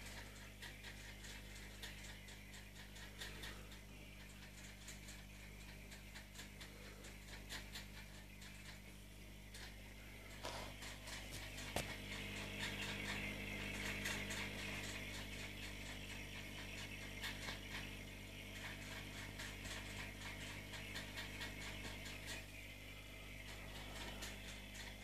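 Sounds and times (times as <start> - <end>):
aquarium pump hum: 0.0 - 25.0.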